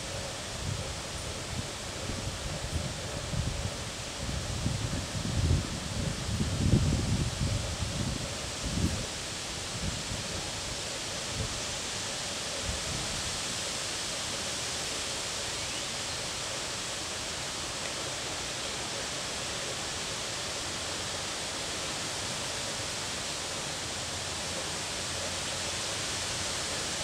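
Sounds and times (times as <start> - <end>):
wind through tree leaves: 0.0 - 27.0.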